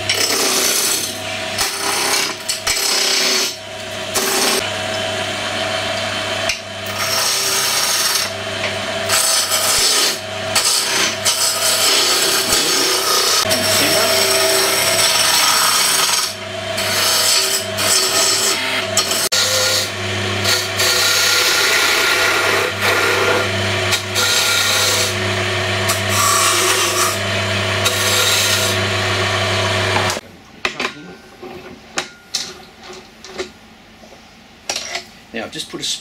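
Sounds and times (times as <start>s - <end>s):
lathe motor hum: 0.0s - 30.2s
tool scraping spinning wood: 0.0s - 30.2s.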